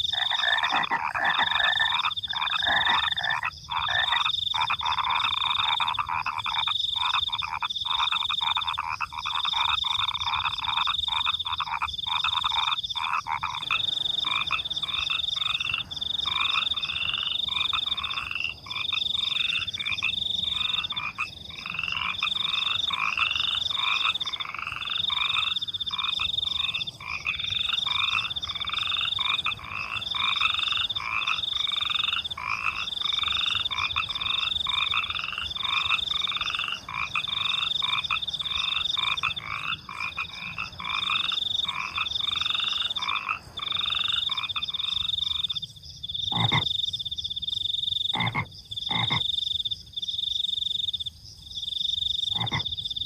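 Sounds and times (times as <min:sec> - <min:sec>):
crickets chirping: 0:00.0 - 0:53.0
frogs croaking: 0:00.0 - 0:53.0.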